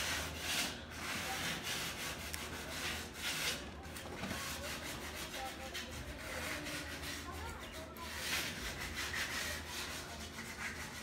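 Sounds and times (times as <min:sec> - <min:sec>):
sandpaper rubbing on metal: 0:00.0 - 0:11.0.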